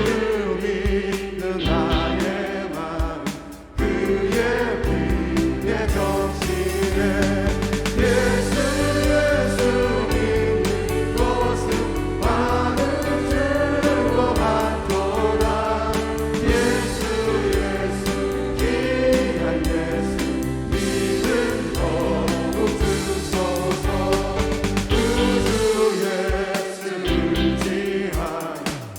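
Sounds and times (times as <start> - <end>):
group singing worship song: 0.0 - 28.9
instrumental accompaniment with beat: 0.9 - 28.9.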